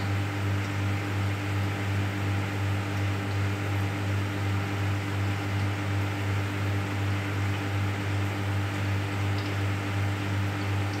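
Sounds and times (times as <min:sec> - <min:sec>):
filter pump humming: 0:00.0 - 0:11.0.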